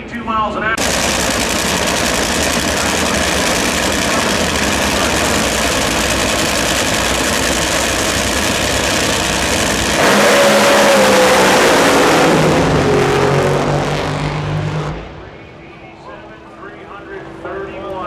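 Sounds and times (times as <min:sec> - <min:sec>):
drag-racing engine rumbling: 0:00.8 - 0:18.0.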